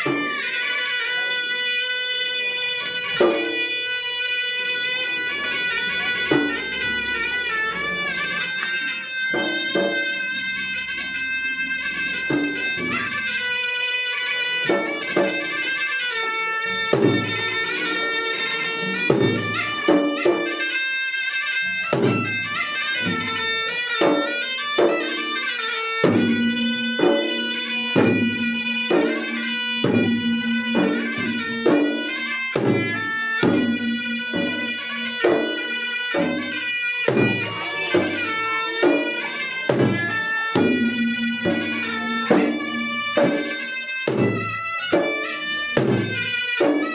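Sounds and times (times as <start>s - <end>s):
rhythmic drum strokes: 0.0s - 46.9s
shrill reed instrument melody: 0.0s - 46.9s.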